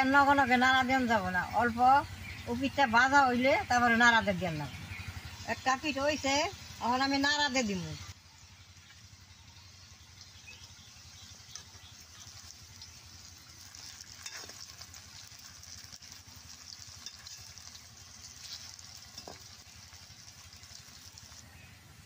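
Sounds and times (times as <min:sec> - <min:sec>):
okra sizzling in hot oil: 0:00.0 - 0:22.0.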